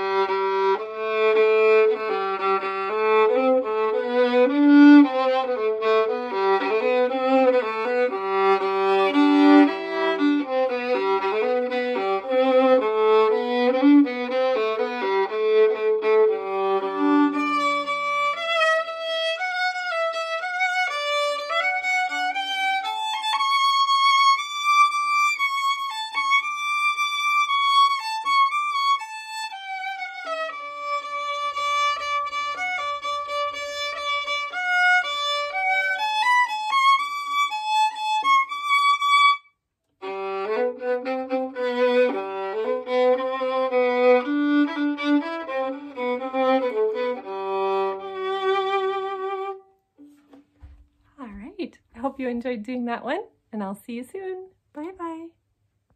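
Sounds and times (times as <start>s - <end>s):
solo violin: 0.0s - 51.1s.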